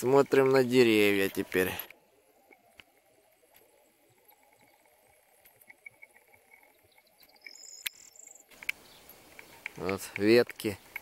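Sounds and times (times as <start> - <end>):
insects chirping: 0.0 - 9.8.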